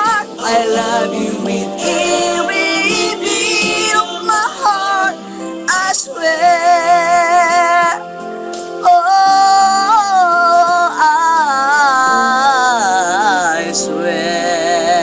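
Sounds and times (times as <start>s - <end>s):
man singing with vibrato: 0.0s - 8.1s, 8.8s - 15.0s
backing track: 0.0s - 15.0s.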